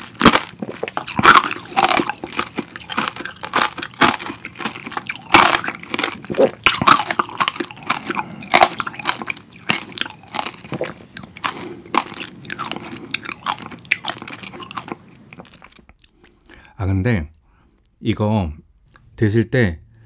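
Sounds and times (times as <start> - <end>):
candy shell crunching while chewing: 0.0 - 16.6.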